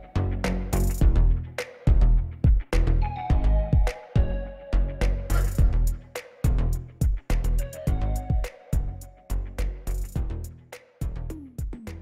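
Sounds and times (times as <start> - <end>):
music with drum beat: 0.4 - 4.4, 5.0 - 12.0.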